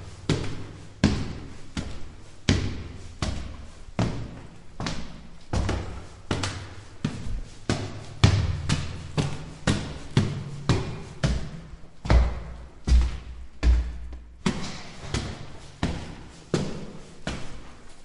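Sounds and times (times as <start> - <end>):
footsteps on stone stairs: 0.0 - 18.0.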